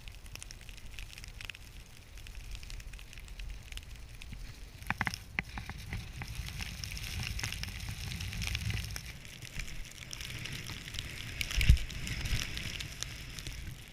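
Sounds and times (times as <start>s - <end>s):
crackling hiss of snow spray: 0.0s - 13.9s
wind rumble on microphone: 0.0s - 13.9s.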